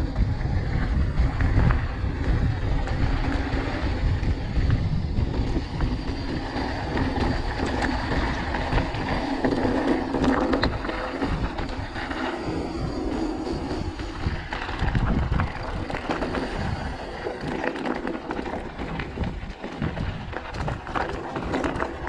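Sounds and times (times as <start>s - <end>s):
bike rattling: 0.0s - 22.0s
tyres crunching over gravel: 0.4s - 22.0s.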